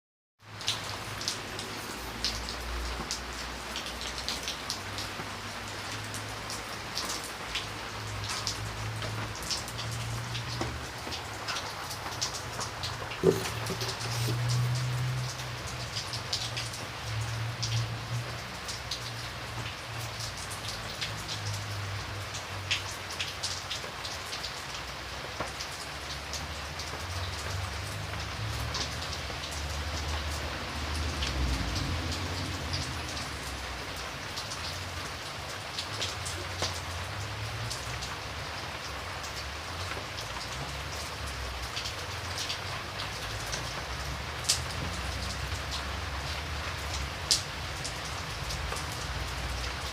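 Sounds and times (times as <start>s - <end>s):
steady rain falling: 0.4s - 49.9s.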